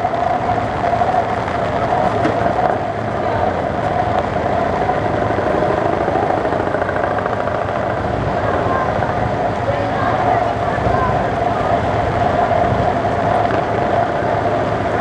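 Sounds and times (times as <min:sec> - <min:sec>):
vehicle engines running: 0:00.0 - 0:15.0.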